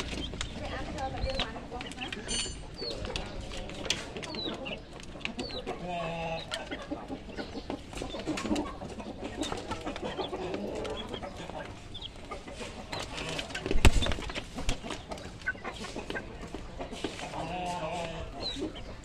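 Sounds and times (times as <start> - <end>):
chicks clucking and calling: 0.0 - 19.0.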